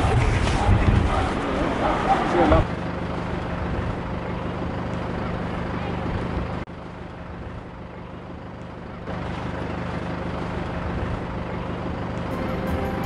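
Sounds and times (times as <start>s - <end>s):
large vehicle engine idling: 1.4s - 13.0s.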